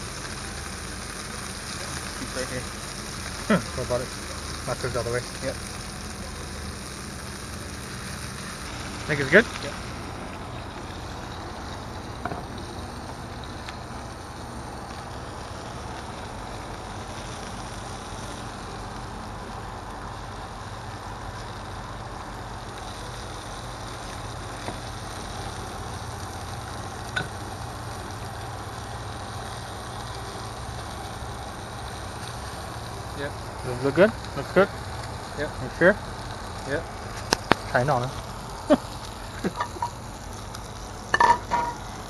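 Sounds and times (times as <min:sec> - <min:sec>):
camp stove hissing: 0:00.0 - 0:42.0
fish frying in oil: 0:00.0 - 0:42.0.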